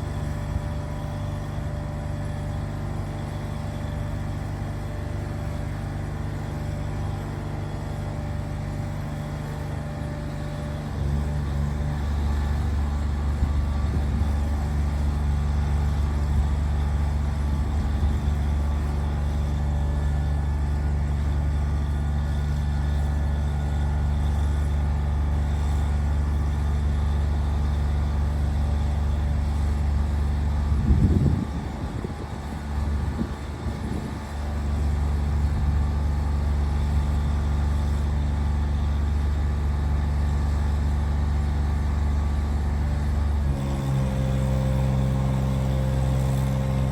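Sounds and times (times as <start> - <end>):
truck engine humming: 0.0 - 46.9.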